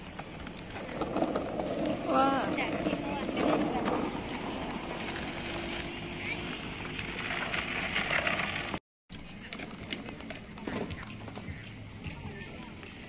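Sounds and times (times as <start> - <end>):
skate wheels rolling on pavement: 0.0 - 13.0.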